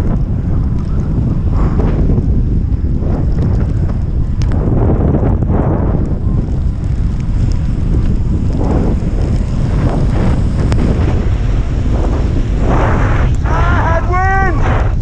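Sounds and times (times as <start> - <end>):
wind buffeting camera microphone: 0.0 - 15.0.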